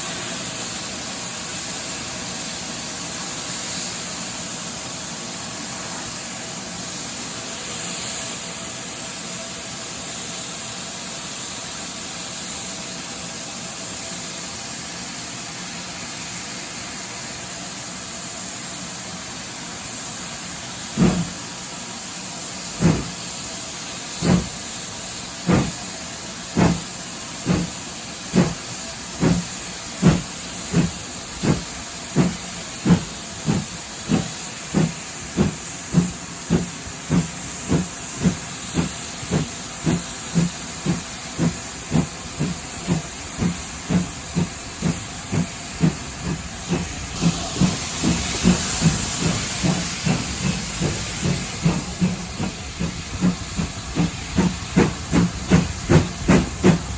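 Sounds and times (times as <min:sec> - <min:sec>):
steam hiss: 0:00.0 - 0:56.9
steam locomotive exhaust chuffs: 0:00.0 - 0:56.9.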